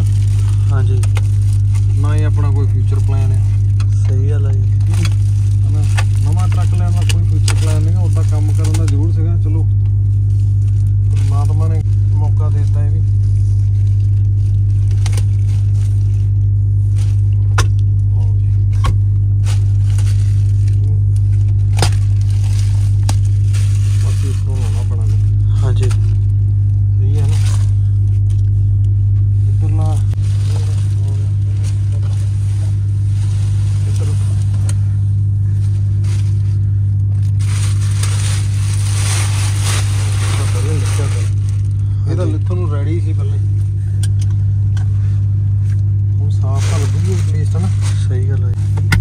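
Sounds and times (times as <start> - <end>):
plastic film crinkling: 0.0 - 18.4, 19.0 - 48.8
loud steady low drone: 0.0 - 49.0
loud steady low hum: 0.0 - 49.0.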